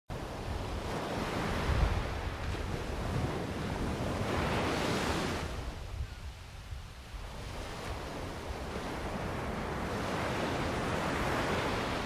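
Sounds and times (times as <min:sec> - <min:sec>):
wind buffeting microphone: 0:00.1 - 0:12.0
ocean surf washing in: 0:00.2 - 0:05.9, 0:07.1 - 0:12.0.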